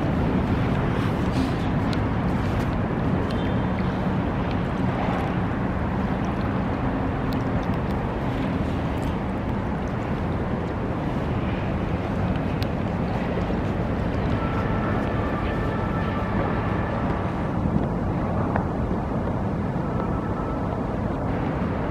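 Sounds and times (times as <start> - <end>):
river water moving: 0.0 - 19.9
wind on microphone: 0.0 - 21.9.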